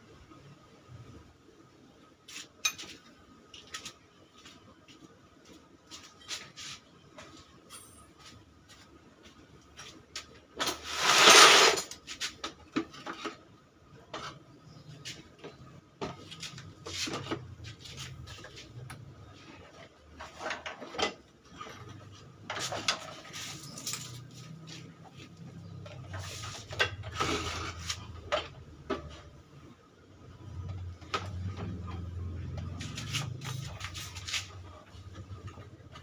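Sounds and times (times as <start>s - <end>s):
scraping and rubbing on engine parts: 2.2s - 4.7s, 5.5s - 7.3s, 9.8s - 29.4s, 30.5s - 36.0s.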